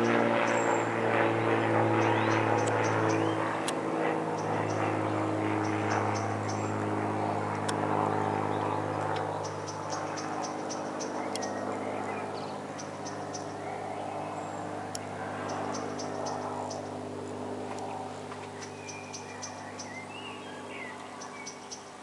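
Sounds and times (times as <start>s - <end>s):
birds chirping: 0.0s - 22.0s
propeller plane engine droning: 0.0s - 22.0s.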